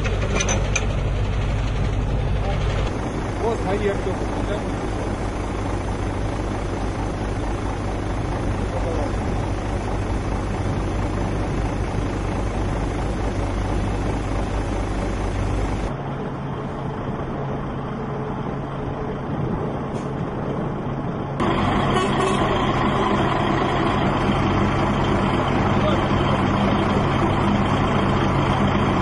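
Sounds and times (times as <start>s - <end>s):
heavy machinery running: 0.0s - 29.0s.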